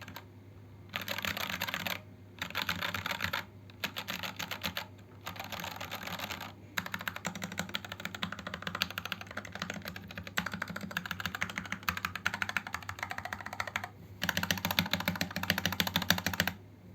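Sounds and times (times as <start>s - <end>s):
mechanical keyboard typing: 0.0s - 0.3s, 0.9s - 16.6s.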